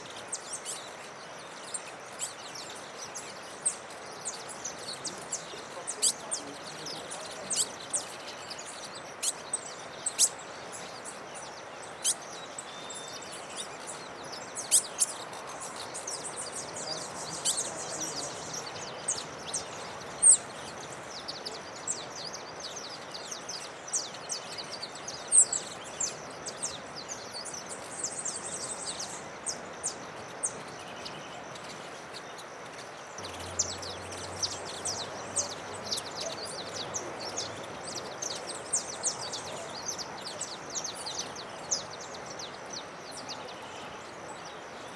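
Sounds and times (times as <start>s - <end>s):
small birds chirping: 0.0s - 44.9s
steady background hiss: 0.0s - 44.9s.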